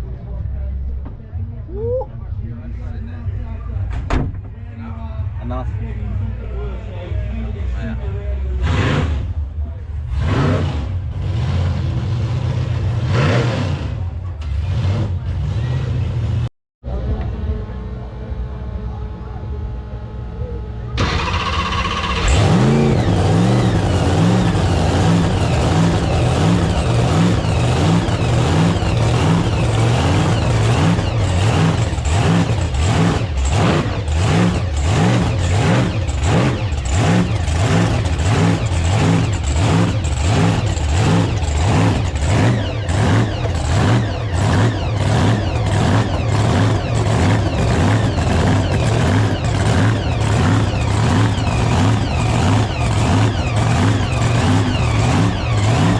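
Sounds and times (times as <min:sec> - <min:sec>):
car engine starting and idling: 0:00.0 - 0:55.9.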